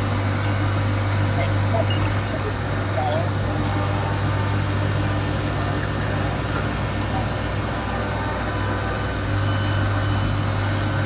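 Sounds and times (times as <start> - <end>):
milling machine cutting metal: 0.0 - 11.0.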